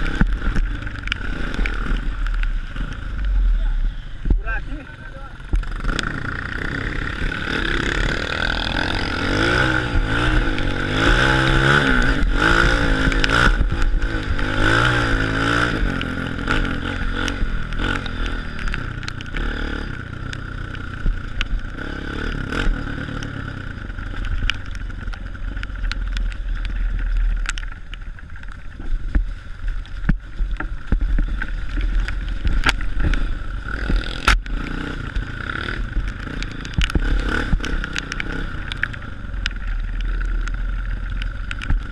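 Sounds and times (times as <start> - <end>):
motorbike engine revving: 0.0 - 27.6, 30.7 - 41.9.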